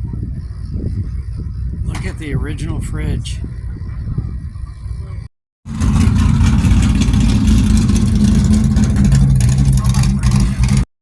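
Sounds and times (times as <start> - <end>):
car engine rumbling: 0.0 - 10.9.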